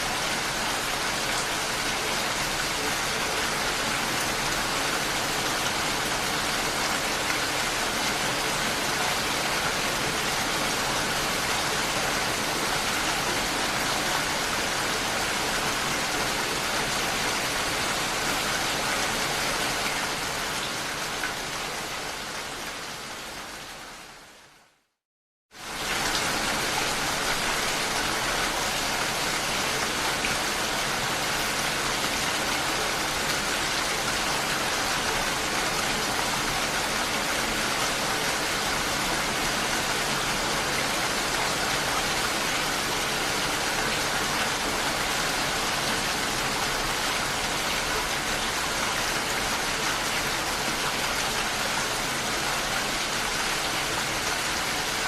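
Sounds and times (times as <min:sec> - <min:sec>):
heavy rain: 0:00.0 - 0:25.0, 0:25.6 - 0:55.0.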